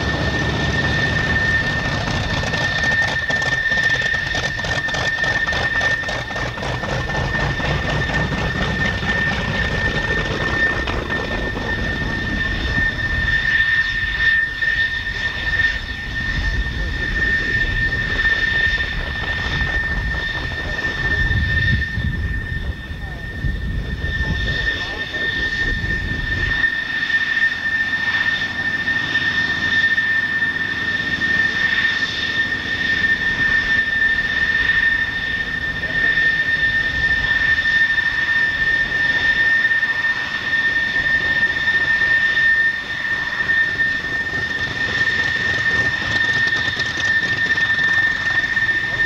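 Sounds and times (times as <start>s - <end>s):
high-pitched whine: 0.0s - 49.0s
propeller aircraft engine running: 0.0s - 49.0s.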